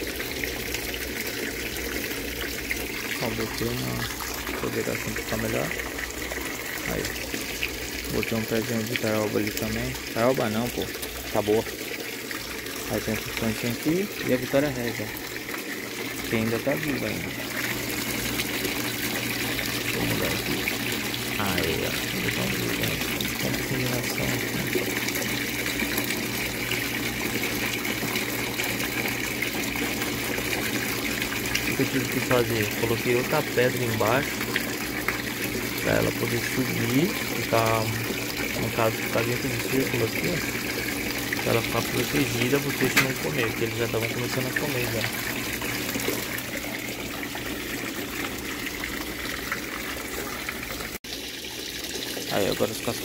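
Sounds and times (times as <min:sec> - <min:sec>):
water running and splashing: 0:00.0 - 0:53.0.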